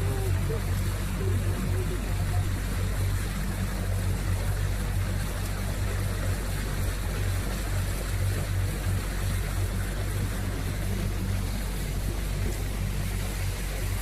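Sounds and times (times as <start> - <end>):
motorboat engine humming: 0.0 - 14.0
water rushing: 0.0 - 14.0
wind: 0.0 - 14.0.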